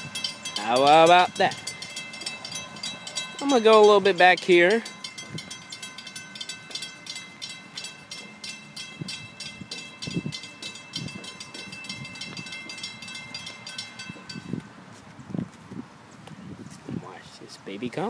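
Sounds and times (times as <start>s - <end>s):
crossing warning bell ringing: 0.0s - 14.8s.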